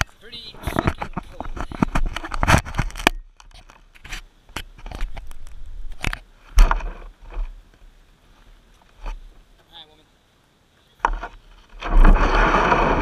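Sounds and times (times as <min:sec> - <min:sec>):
knocks and scraping: 0:00.0 - 0:09.7, 0:11.0 - 0:13.0.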